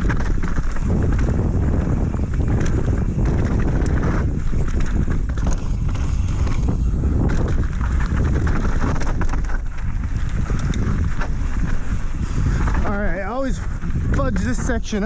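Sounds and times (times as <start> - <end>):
bike rattling over bumps: 0.0 - 15.0
tyres rolling on dirt: 0.0 - 15.0
wind on microphone: 0.0 - 15.0.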